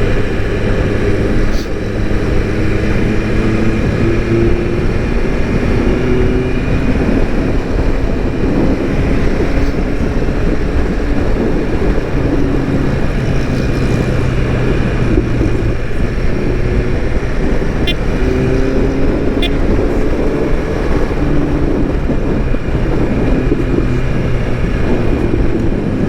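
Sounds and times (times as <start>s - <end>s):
motorcycle engine running: 0.0s - 26.0s
wind noise: 0.0s - 26.0s.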